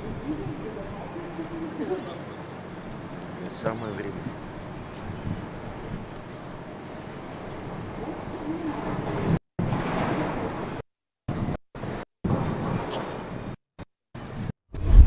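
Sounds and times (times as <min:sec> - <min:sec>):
outdoor background noise: 0:00.0 - 0:13.6.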